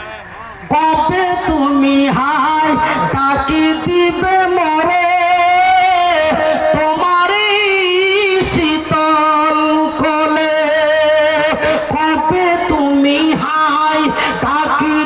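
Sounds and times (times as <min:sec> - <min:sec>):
man singing into a microphone: 0:00.6 - 0:15.0.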